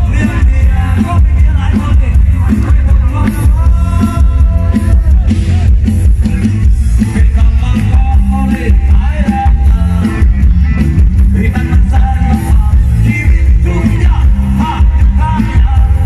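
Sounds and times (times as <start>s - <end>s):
loud amplified band music: 0.0s - 16.0s.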